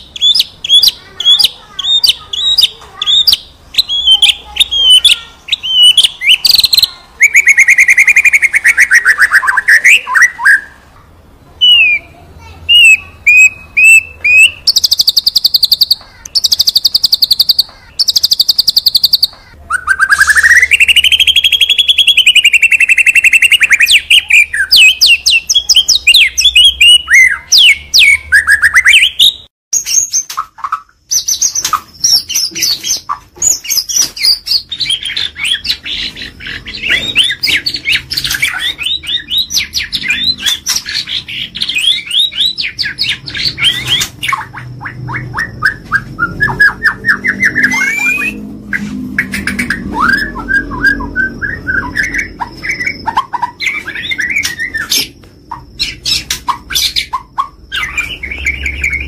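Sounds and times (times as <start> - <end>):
songbird singing: 0.0 - 10.9, 11.6 - 59.0.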